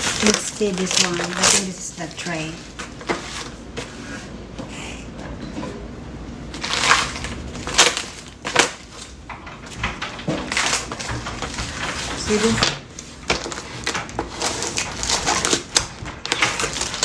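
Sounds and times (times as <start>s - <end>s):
sharp packaging crackles: 0.0s - 3.7s, 6.5s - 17.0s
packaging rustling and crinkling: 0.0s - 4.4s, 6.5s - 17.0s.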